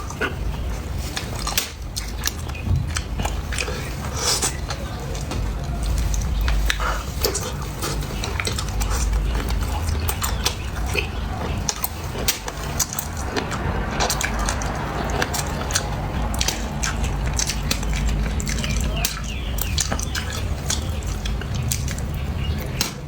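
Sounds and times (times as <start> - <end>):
wet mouth noises: 0.0 - 22.8
chewing and biting: 0.0 - 23.0
steady low hum: 0.0 - 23.0.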